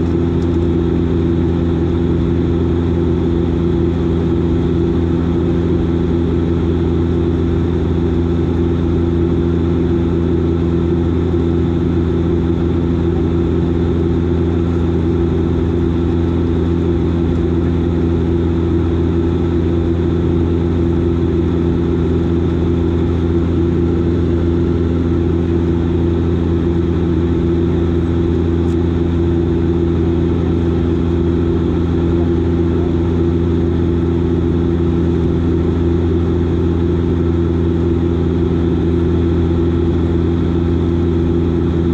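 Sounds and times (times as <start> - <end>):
turboprop engines droning: 0.0 - 41.9.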